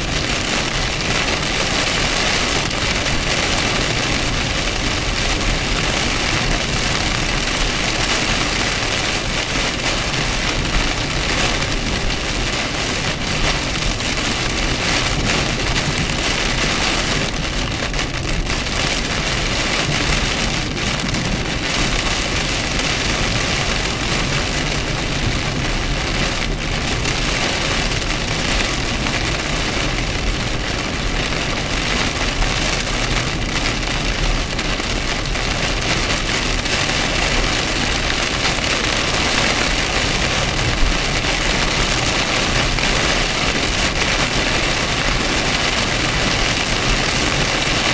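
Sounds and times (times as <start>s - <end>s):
heavy rain on car roof: 0.0s - 47.9s.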